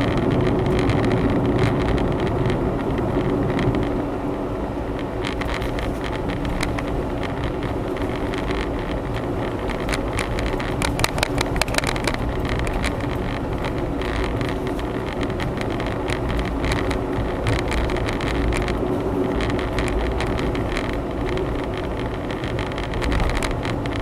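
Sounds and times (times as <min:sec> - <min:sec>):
car engine and road hum: 0:00.0 - 0:24.0
short rattles in car cabin: 0:04.8 - 0:24.0.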